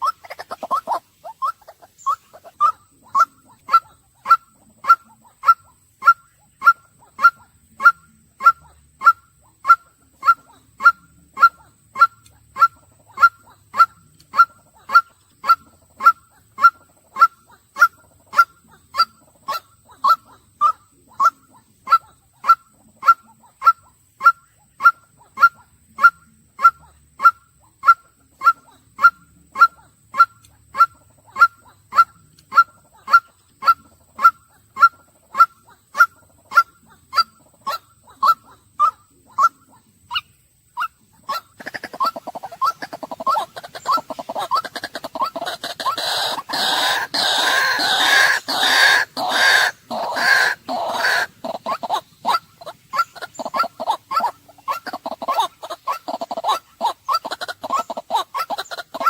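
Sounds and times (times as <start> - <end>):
waterhen kwak call: 0.0 - 59.0.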